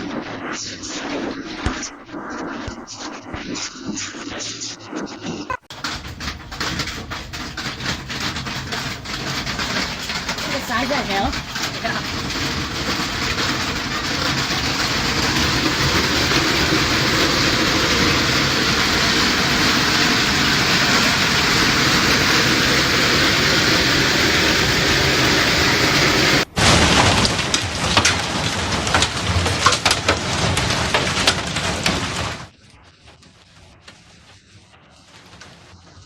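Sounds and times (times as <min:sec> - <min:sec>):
hail and rain pouring down: 0:05.6 - 0:36.0
hailstones cracking on hard surfaces: 0:05.6 - 0:36.0.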